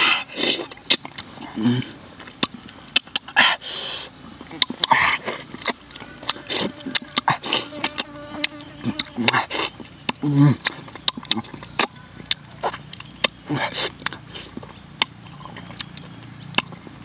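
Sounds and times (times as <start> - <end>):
insects singing: 0.0 - 17.0
wet chewing and lip-smacking: 0.3 - 3.4, 4.1 - 17.0.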